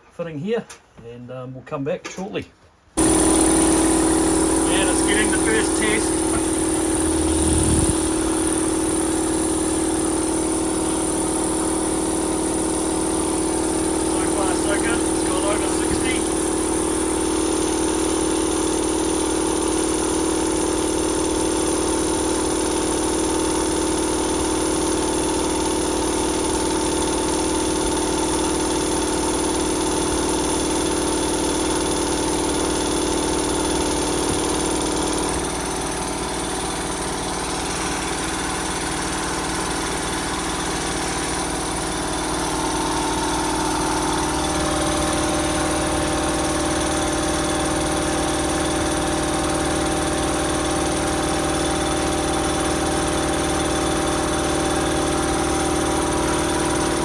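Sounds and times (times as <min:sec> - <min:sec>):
air compressor running: 0:03.0 - 0:57.0.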